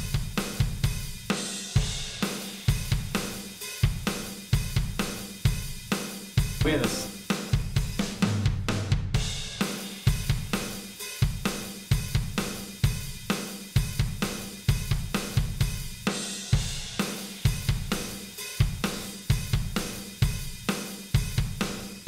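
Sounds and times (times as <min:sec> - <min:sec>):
background music with drum beat: 0:00.0 - 0:22.0.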